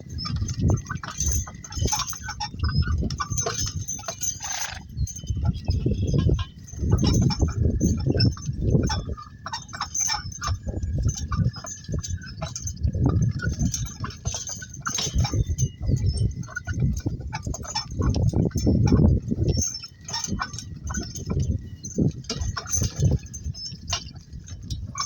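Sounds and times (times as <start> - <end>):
cart rumbling along: 0.0 - 25.0
harness clinking and jingling: 0.0 - 25.0.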